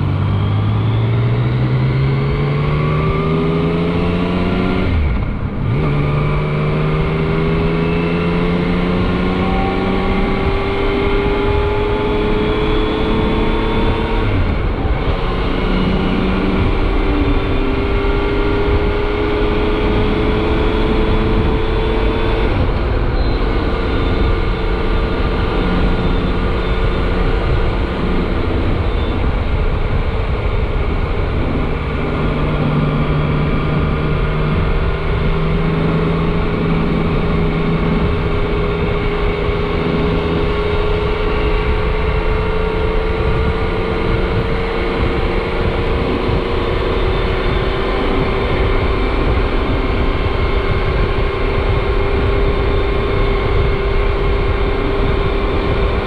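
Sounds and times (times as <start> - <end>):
motorcycle engine cruising: 0.0 - 56.0
wind rushing over microphone: 0.0 - 56.0.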